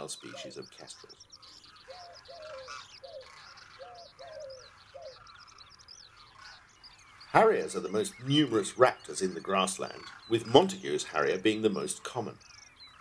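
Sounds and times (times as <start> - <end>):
low bird cooing: 0.0 - 13.0
small birds chirping: 0.0 - 13.0.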